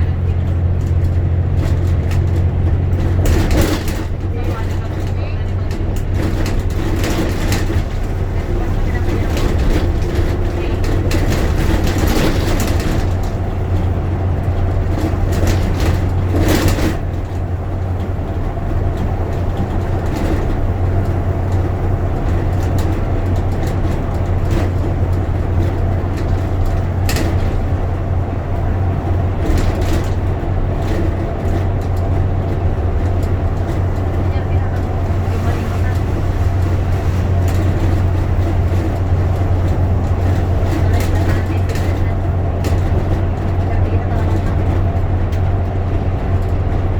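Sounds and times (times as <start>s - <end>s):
bus engine and road drone: 0.0s - 46.9s.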